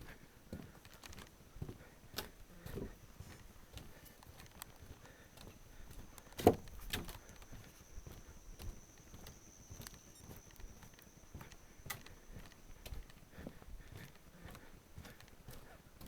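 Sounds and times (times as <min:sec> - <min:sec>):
footsteps walking: 0:00.5 - 0:16.0.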